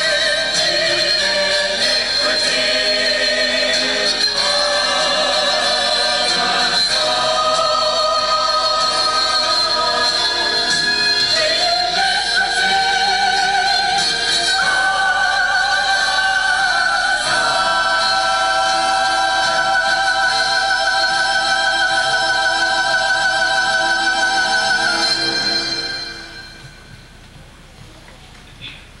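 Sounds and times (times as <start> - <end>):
choir singing: 0.0 - 26.7.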